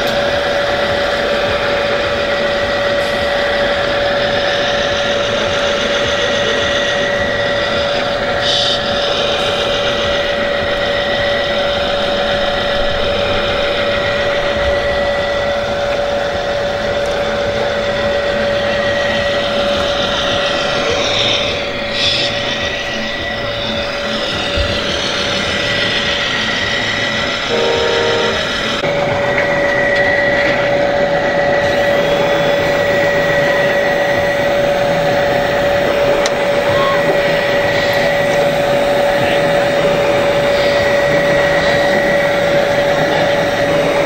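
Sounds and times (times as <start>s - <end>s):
electric pump whine: 0.0s - 44.0s.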